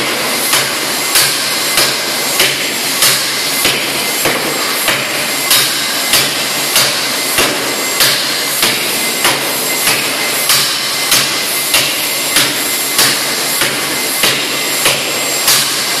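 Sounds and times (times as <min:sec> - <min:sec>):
continuous machine noise: 0:00.0 - 0:16.0
forging hammer striking hot metal: 0:00.0 - 0:16.0.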